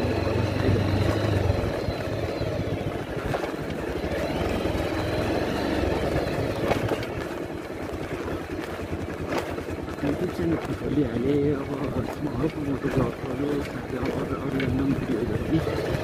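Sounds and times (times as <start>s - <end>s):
motor scooter engine running: 0.0s - 16.0s
road noise: 0.0s - 16.0s.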